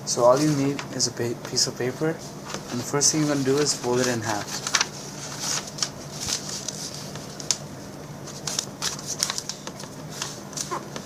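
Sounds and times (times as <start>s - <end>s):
paper rustling and scraping: 0.1s - 11.0s.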